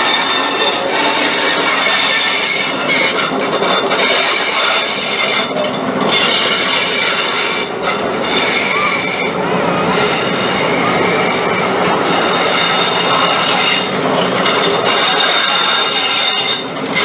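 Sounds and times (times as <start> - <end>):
train running gear rumbling: 0.0 - 17.0
train wheels squealing on rails: 0.0 - 17.0.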